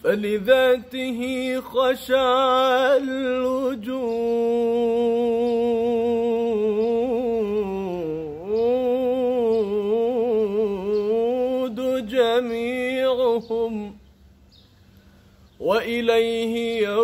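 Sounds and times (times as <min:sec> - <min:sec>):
man singing unaccompanied: 0:00.0 - 0:14.2, 0:15.5 - 0:17.0.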